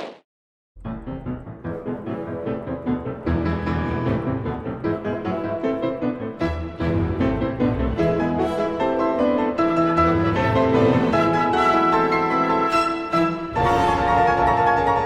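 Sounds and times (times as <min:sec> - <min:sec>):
piano-led background music: 0:00.8 - 0:15.0.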